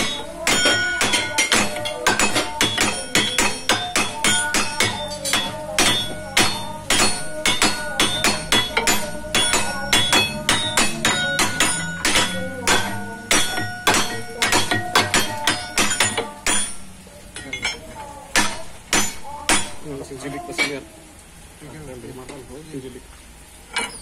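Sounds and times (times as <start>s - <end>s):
hammer striking steel: 0.0s - 19.8s.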